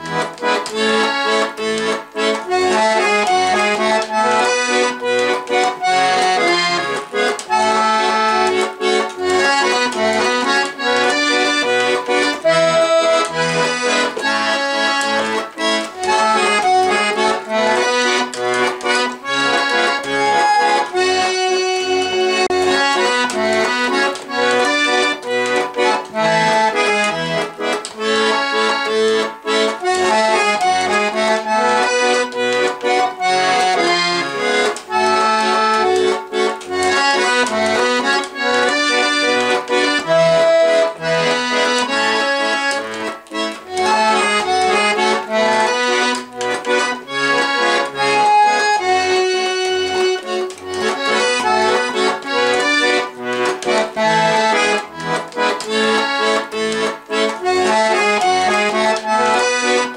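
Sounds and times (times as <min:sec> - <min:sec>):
button accordion playing melody: 0:00.0 - 0:59.9.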